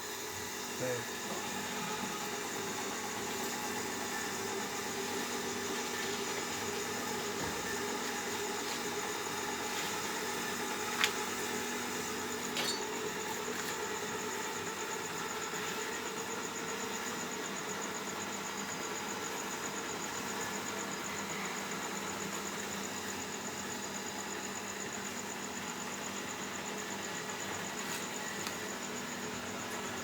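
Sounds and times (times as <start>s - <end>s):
incubator electric hum: 0.0s - 30.0s.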